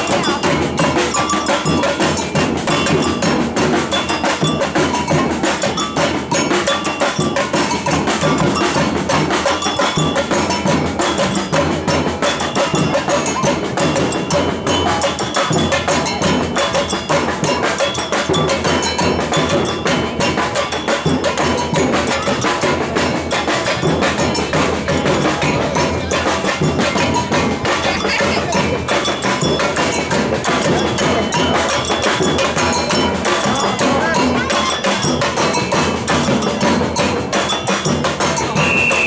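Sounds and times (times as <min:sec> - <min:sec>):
samba percussion band drumming: 0:00.0 - 0:39.0.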